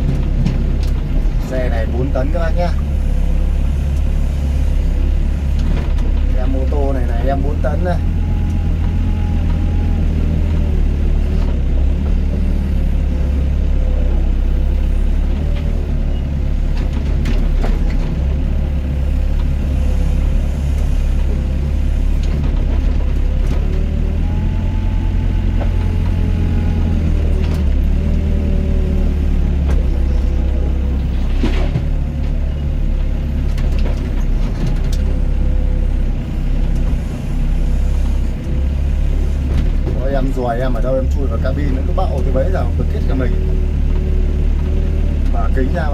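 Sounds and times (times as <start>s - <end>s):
excavator engine droning: 0.0s - 45.9s.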